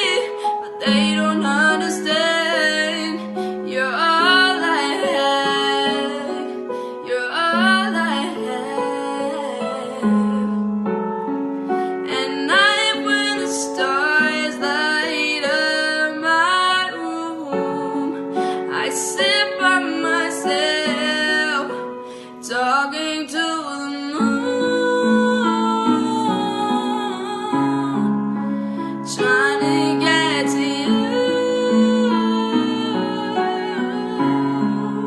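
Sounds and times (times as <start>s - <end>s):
woman singing: 0.0s - 10.7s, 11.9s - 35.0s
piano accompaniment: 0.0s - 35.0s.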